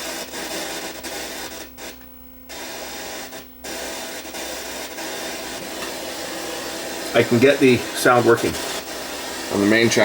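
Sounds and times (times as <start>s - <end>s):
static hiss with steady hum: 0.0s - 10.0s.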